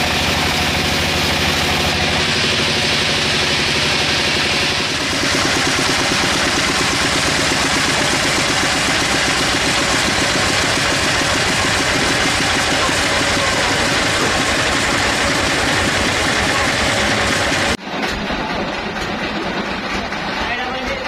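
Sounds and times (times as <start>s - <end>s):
engine running with low throb: 0.0s - 21.0s.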